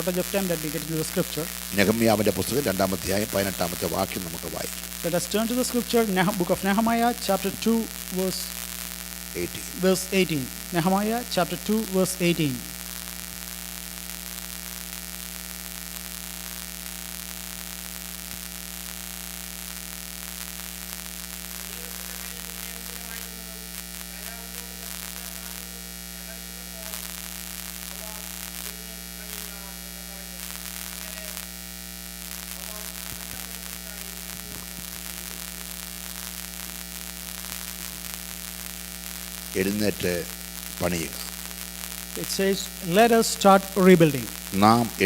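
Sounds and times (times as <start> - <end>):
electrical mains hum: 0.0 - 15.2, 18.0 - 45.0
static hiss: 0.0 - 45.0.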